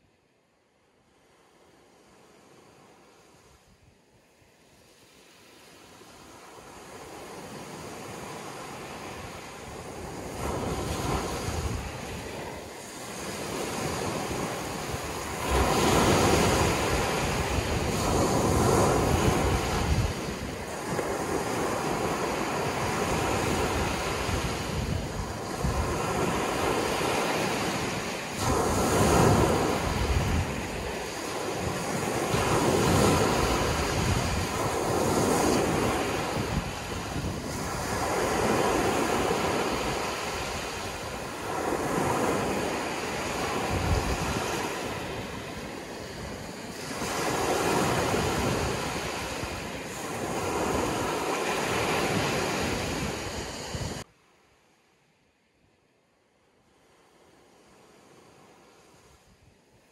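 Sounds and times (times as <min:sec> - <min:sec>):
ocean waves breaking: 0:04.2 - 0:54.0.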